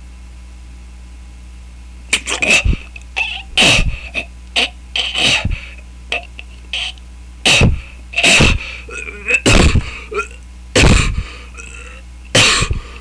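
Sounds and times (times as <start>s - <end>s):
man making mouth noises: 2.1s - 13.0s.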